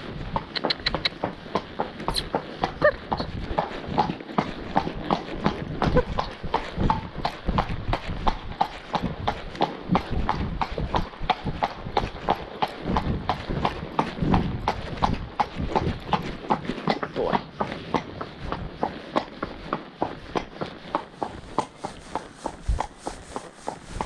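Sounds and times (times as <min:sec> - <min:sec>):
horse hooves on hard road: 0:00.0 - 0:24.0.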